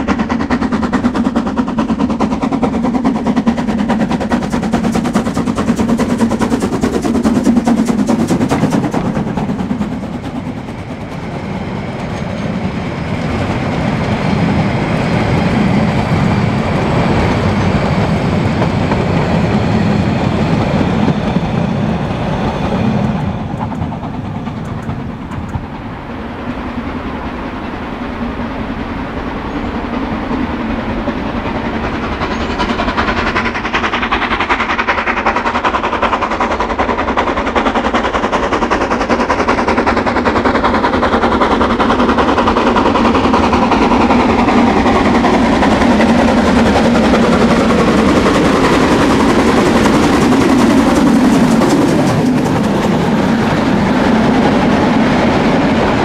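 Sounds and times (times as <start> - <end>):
steam train running: 0.0 - 56.0.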